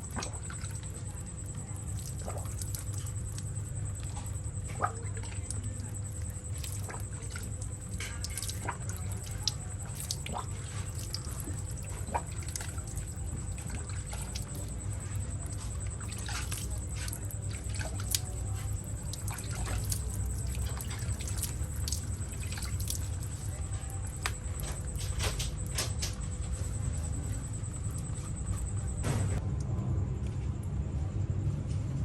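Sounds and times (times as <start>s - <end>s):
water dripping and trickling: 0.0s - 29.3s
steady low hum: 0.0s - 32.0s.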